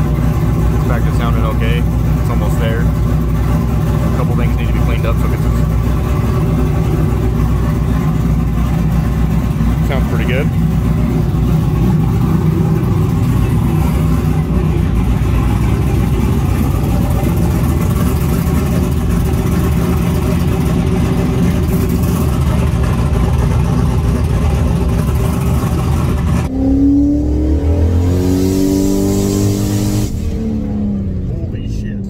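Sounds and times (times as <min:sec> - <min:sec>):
engine idling: 0:00.0 - 0:26.5, 0:30.0 - 0:32.0.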